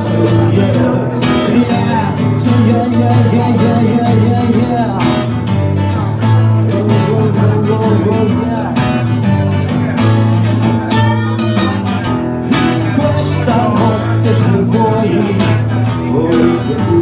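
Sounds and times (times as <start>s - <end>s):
person singing: 0.0s - 9.2s, 10.4s - 17.0s
pop-rock band with guitar: 0.0s - 17.0s.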